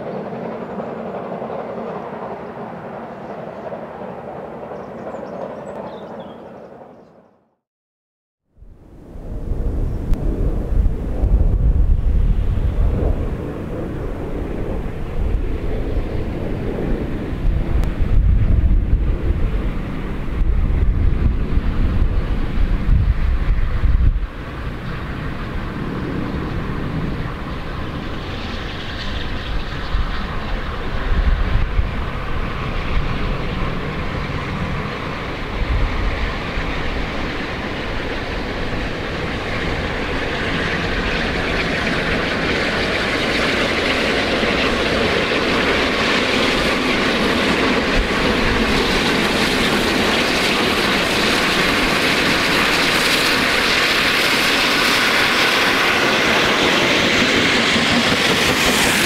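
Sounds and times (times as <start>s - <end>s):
steam locomotive approaching: 0.0s - 7.0s, 8.6s - 59.0s
wind rumbling on microphone: 8.6s - 59.0s.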